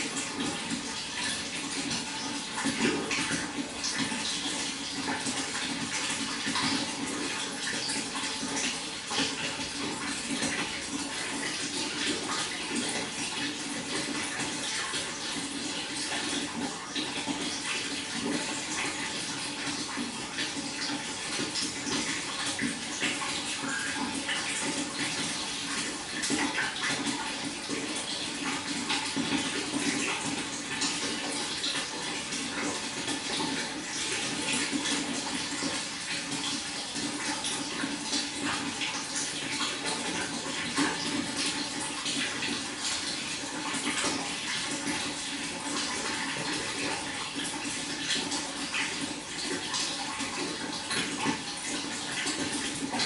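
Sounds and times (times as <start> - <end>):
water flowing and splashing: 0.0 - 53.0.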